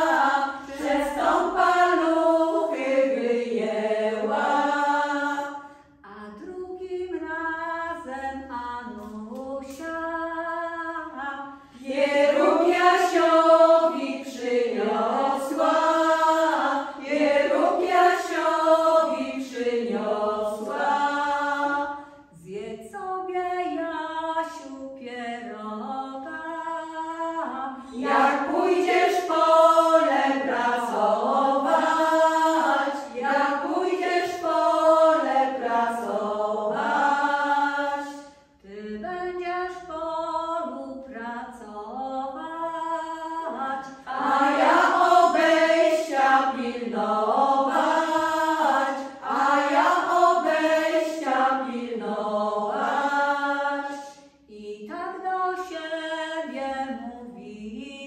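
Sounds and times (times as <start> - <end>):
women singing a cappella: 0.0 - 58.0.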